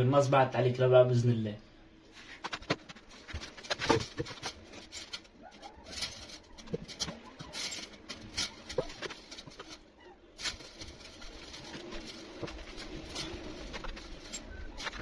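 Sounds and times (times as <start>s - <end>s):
wire bird cage rattling: 2.4s - 15.0s.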